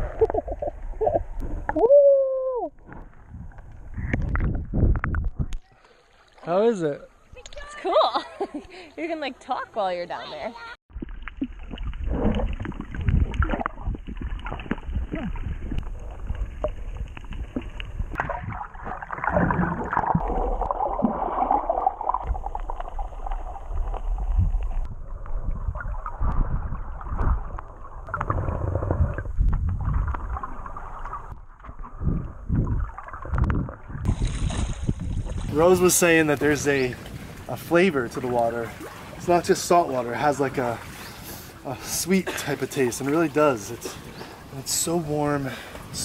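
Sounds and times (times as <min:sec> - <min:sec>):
underwater gurgling and sloshing: 0:00.0 - 0:01.7, 0:02.8 - 0:07.4, 0:10.9 - 0:46.0.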